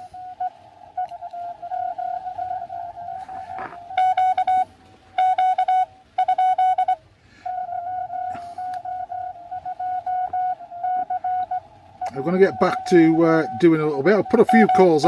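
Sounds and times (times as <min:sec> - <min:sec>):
morse code tone: 0:00.0 - 0:15.0.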